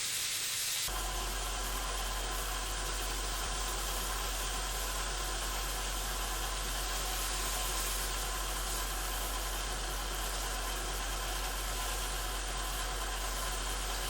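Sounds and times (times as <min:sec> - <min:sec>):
steaks sizzling in a frying pan: 0:01.5 - 0:14.0.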